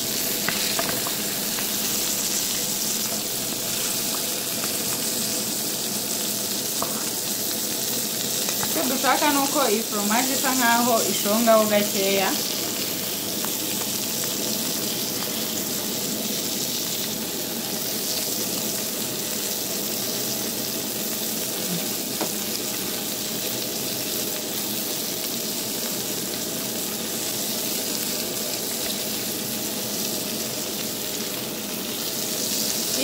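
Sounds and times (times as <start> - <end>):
burger patties sizzling in pan: 0.0 - 33.0.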